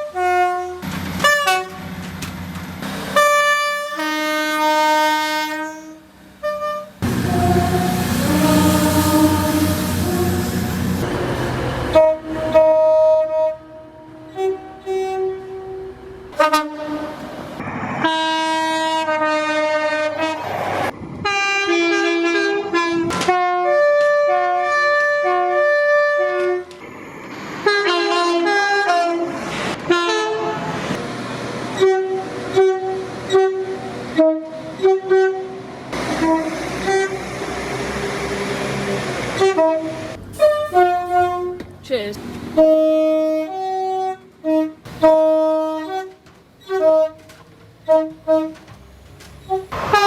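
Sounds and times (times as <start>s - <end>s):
train horn blasts: 0.0s - 1.9s, 3.1s - 17.3s, 18.0s - 20.5s, 21.2s - 26.8s, 27.6s - 31.0s, 31.7s - 37.4s, 39.4s - 48.8s, 49.4s - 50.0s.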